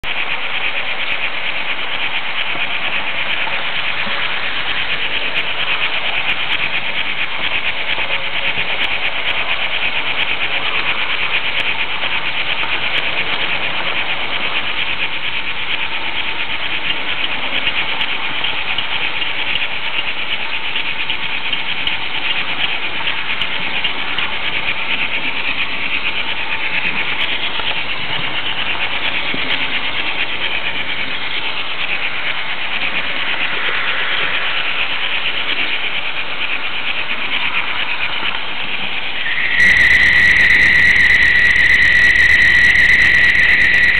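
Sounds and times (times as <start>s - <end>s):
model train rattling on track: 0.0s - 43.9s.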